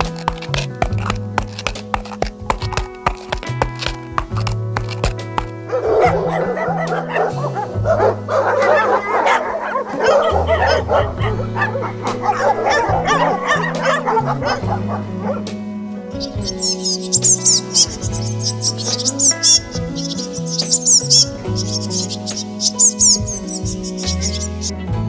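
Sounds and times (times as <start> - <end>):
sled dogs barking and yipping: 0.0 - 24.7
background music with bass line: 0.0 - 25.0.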